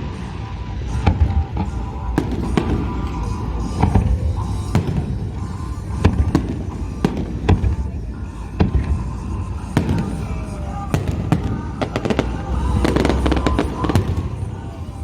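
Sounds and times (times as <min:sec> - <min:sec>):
fireworks bangs: 0:00.0 - 0:15.0
low rumble: 0:00.0 - 0:15.0
music playing: 0:00.0 - 0:15.0.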